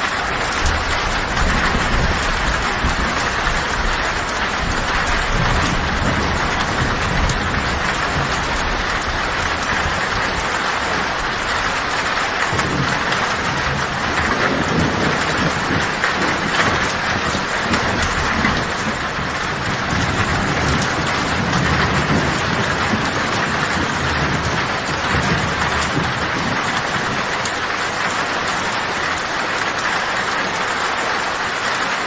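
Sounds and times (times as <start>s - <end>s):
low thunder rumbling: 0.0s - 30.7s
heavy rain on a tin roof: 0.0s - 32.0s.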